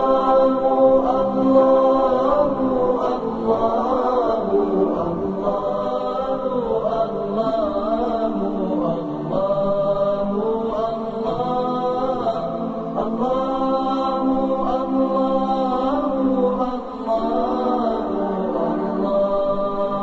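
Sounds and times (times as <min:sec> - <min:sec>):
wordless sung vowels: 0:00.0 - 0:20.0.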